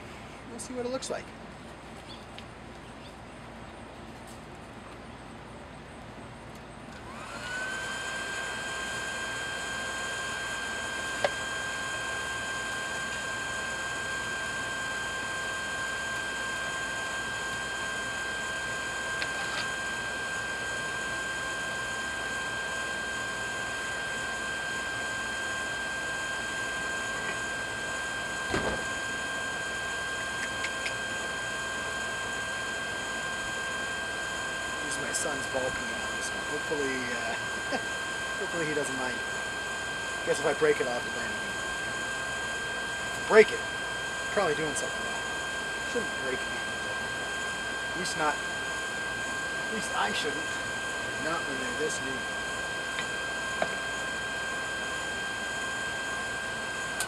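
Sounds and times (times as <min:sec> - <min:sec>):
electric air blower whine: 0:06.8 - 0:57.0.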